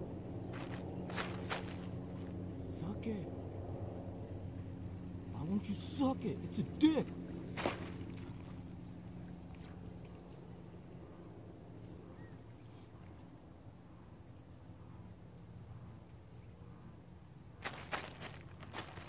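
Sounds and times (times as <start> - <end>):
faint steady hum: 0.0 - 19.0
low steady rumble: 0.0 - 19.0.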